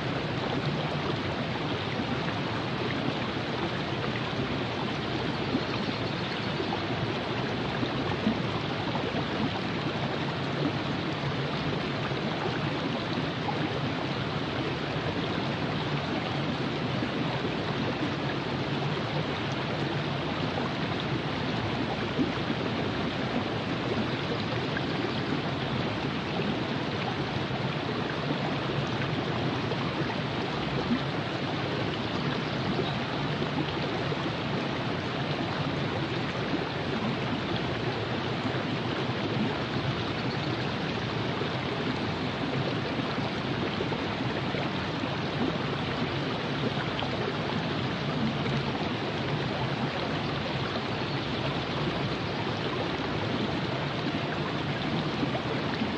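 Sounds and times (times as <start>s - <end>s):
water flowing over rocks: 0.0s - 55.9s.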